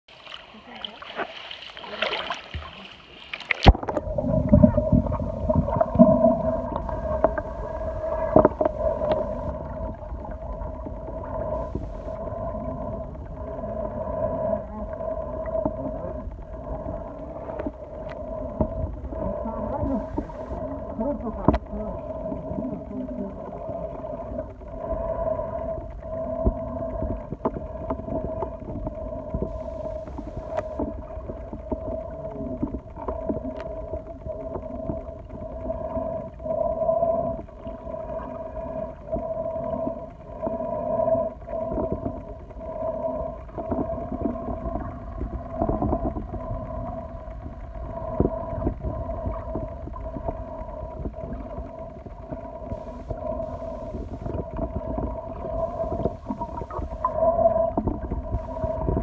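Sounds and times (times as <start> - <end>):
muffled underwater noise: 0.1 - 59.0
steady hum: 3.7 - 59.0.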